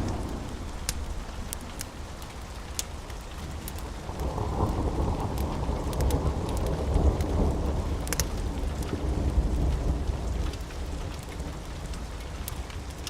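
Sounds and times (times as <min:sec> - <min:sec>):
thunder rumble: 0:00.0 - 0:12.4
steady rain: 0:00.0 - 0:13.0
wood fire crackles: 0:00.0 - 0:13.0.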